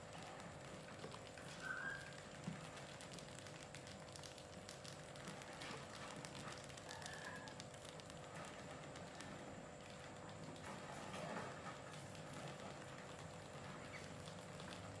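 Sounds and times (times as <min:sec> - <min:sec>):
mice scratching and clicking: 0:00.1 - 0:15.0.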